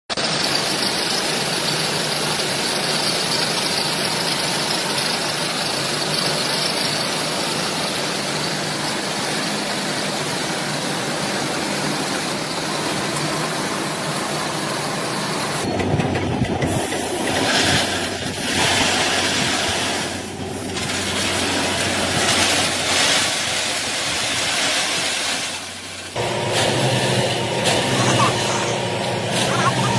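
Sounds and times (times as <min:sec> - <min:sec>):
train running on the track: 0:00.1 - 0:29.9.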